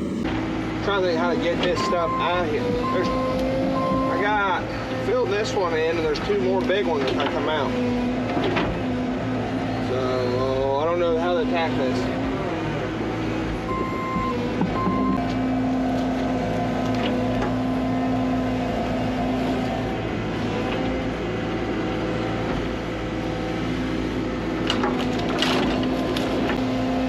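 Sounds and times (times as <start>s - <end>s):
excavator engine running: 0.0s - 27.0s.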